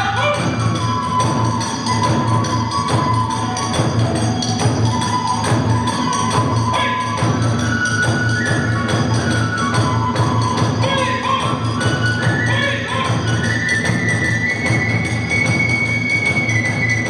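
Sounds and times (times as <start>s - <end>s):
drums beating: 0.0s - 17.0s
flute melody: 0.0s - 17.0s
hand cymbals: 0.0s - 17.0s.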